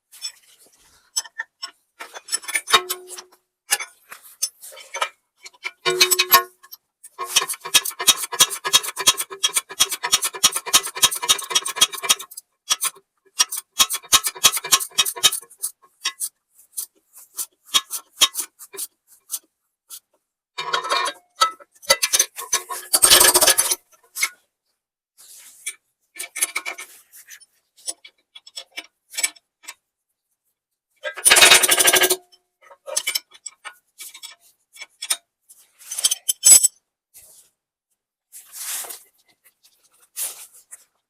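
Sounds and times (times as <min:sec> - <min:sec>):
metal clinks and scrapes: 0:00.1 - 0:24.4, 0:25.3 - 0:29.8, 0:31.0 - 0:37.4.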